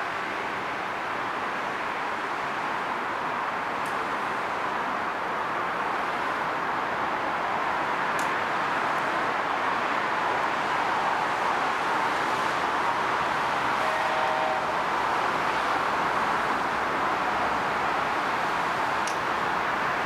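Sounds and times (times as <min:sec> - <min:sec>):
freight train rushing: 0:00.0 - 0:20.0.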